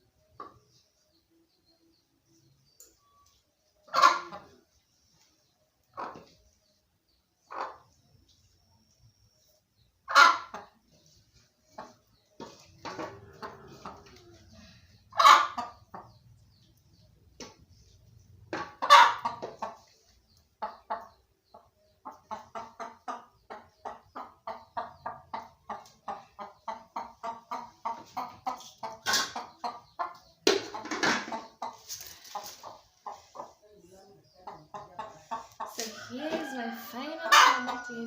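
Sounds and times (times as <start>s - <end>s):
chickens clucking: 0.0s - 1.1s, 2.3s - 8.9s, 9.8s - 38.0s.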